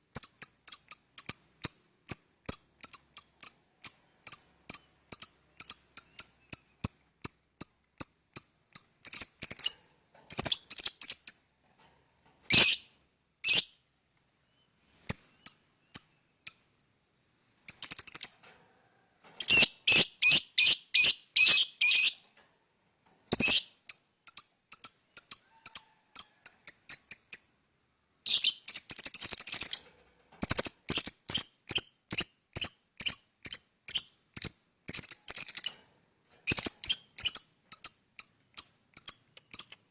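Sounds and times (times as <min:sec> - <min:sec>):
lovebird chirping: 0:00.1 - 0:11.5, 0:12.5 - 0:13.8, 0:14.4 - 0:16.8, 0:17.6 - 0:18.5, 0:19.4 - 0:22.2, 0:23.3 - 0:27.6, 0:28.2 - 0:35.8, 0:36.5 - 0:39.9.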